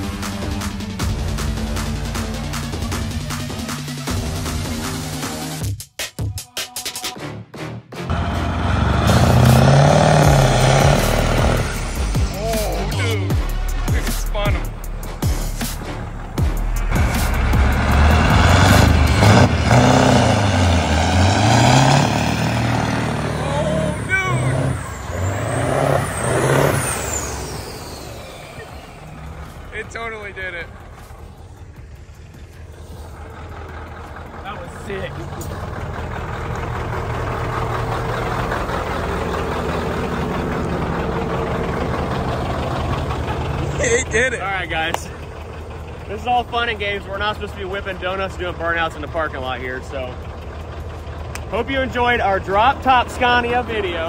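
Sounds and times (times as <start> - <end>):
diesel truck engine revving: 0.0 - 5.6, 7.9 - 54.0.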